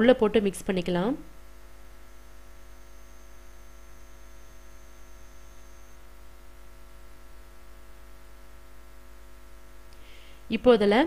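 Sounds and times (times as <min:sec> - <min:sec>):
electrical mains hum with hiss: 0:00.0 - 0:11.0
faint high whine: 0:00.0 - 0:11.0.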